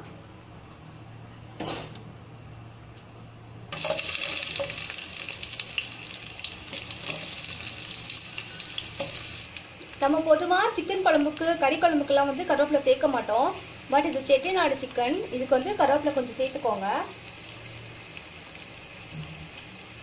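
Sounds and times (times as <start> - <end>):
onions sizzling in oil: 3.7 - 20.0.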